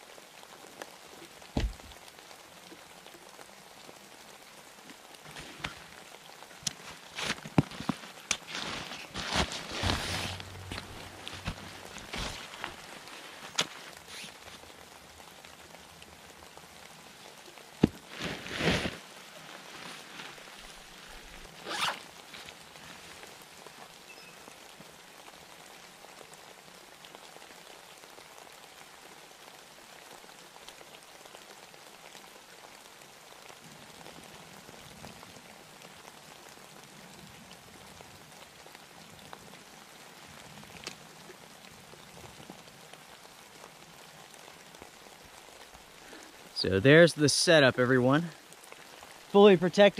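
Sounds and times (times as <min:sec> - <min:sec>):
light rain falling: 0:00.0 - 0:49.9.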